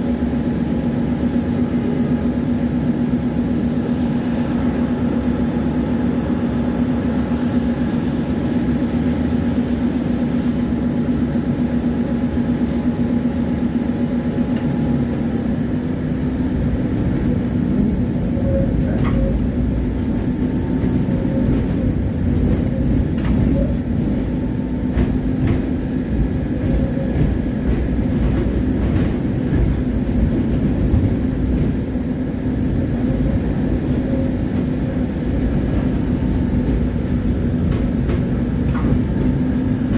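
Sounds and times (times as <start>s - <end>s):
tram rumble and hum: 0.0s - 39.9s.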